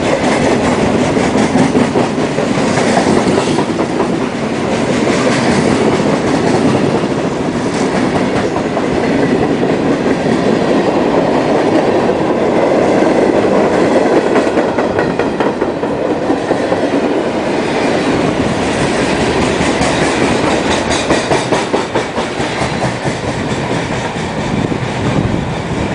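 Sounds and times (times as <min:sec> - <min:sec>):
wheels clicking over rail joints: 0:00.0 - 0:24.6
freight train rolling past: 0:00.0 - 0:25.9.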